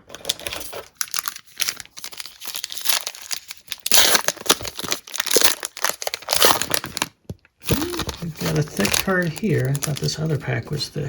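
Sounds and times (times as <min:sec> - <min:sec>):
plastic wrapper tearing and crinkling: 0:00.0 - 0:10.8.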